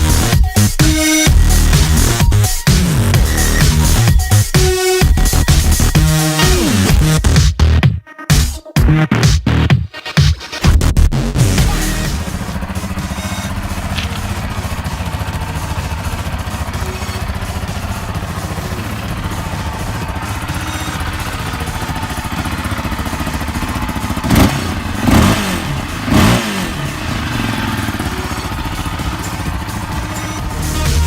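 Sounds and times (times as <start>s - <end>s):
engine revving: 0.0s - 7.4s, 10.0s - 31.0s
off-road vehicle engine running: 0.0s - 7.8s, 10.5s - 31.0s.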